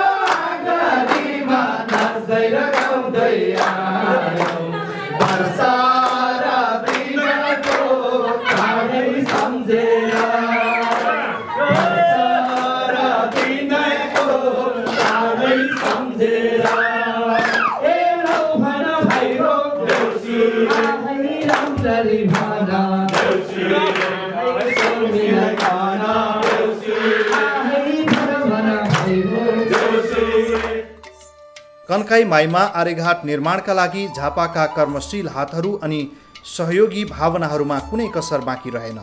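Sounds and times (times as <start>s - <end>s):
group singing a festival song: 0.0s - 31.3s
rhythmic hand claps: 0.0s - 39.0s.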